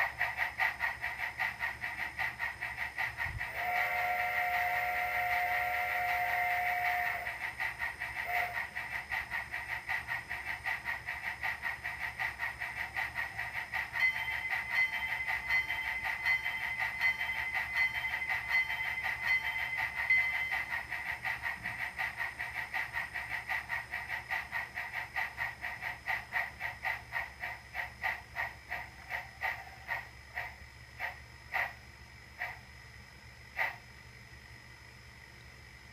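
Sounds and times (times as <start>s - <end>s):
model locomotive steam chuffing: 0.0s - 35.9s.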